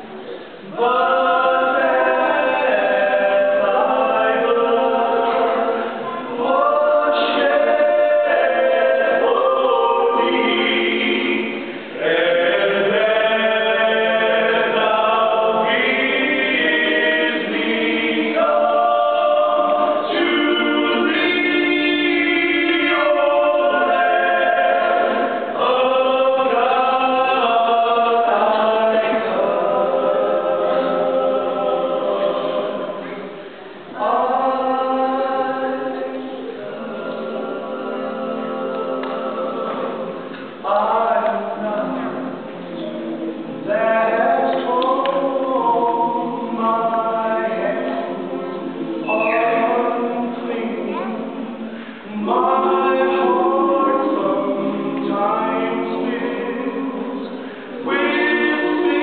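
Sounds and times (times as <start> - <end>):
men singing a cappella: 0.6 - 33.2, 34.0 - 59.0.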